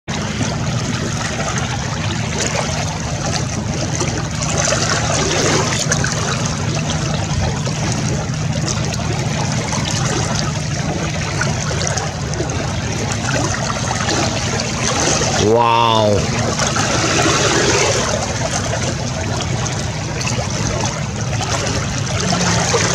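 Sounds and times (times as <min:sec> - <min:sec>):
low hum: 0:00.1 - 0:22.9
small waves lapping: 0:00.1 - 0:22.9.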